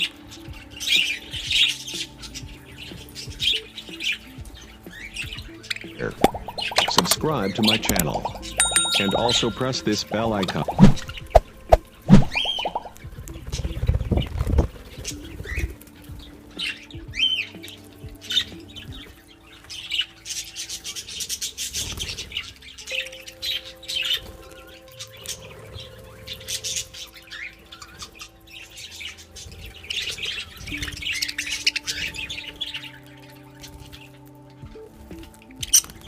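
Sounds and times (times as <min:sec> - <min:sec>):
budgerigars chattering and chirping: 0:00.0 - 0:11.2, 0:12.3 - 0:34.4
background music of held chords: 0:00.0 - 0:36.0.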